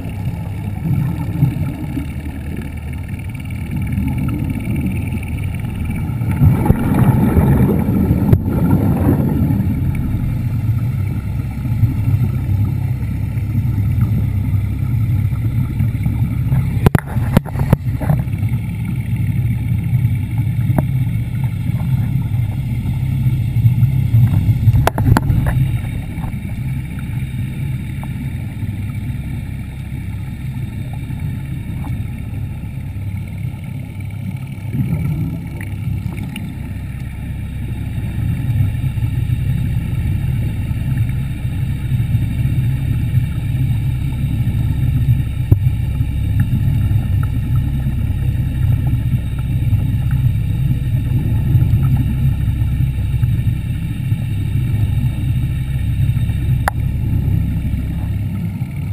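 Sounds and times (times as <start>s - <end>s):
underwater scooter motor hum: 0.0s - 58.9s.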